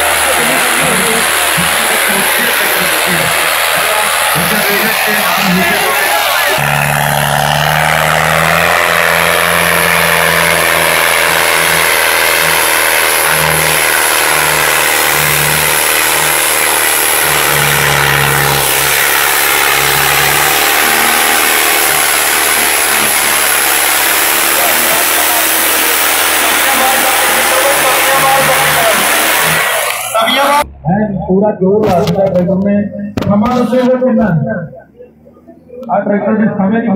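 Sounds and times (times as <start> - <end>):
tractor engine under load: 0.0 - 36.1.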